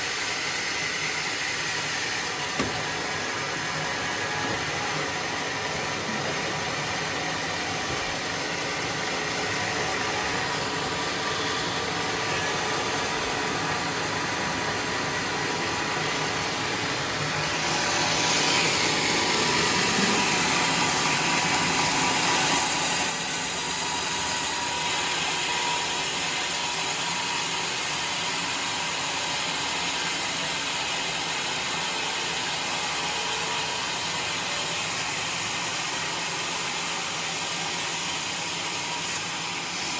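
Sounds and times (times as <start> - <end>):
sawmill machine running: 0.0 - 39.9.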